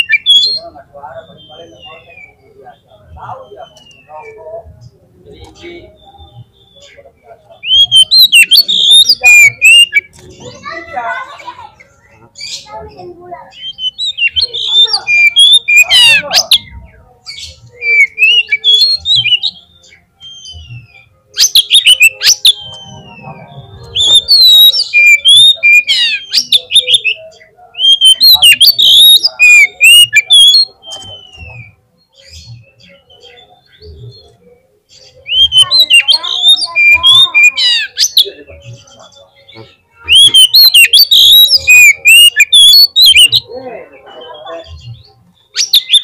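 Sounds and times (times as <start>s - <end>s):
songbird whistles and trills: 5.4s - 10.8s, 13.5s - 43.5s, 44.1s - 46.0s.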